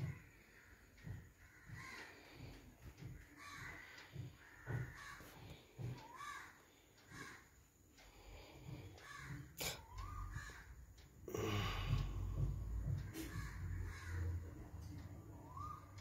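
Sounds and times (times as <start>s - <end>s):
bird cawing: 0.0s - 16.0s.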